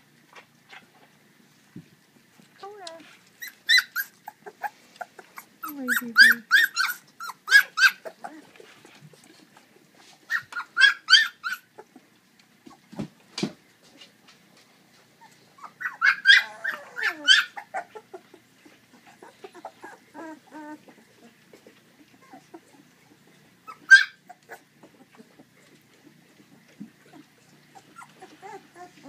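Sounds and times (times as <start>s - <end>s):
puppies whining: 2.6s - 12.9s, 15.0s - 29.0s.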